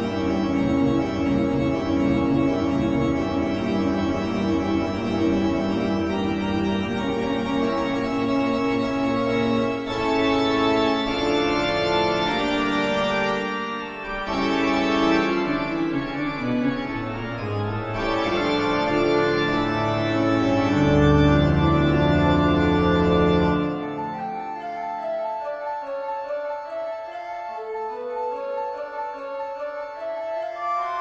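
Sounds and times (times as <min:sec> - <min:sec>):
eerie organ music: 0:00.0 - 0:31.0.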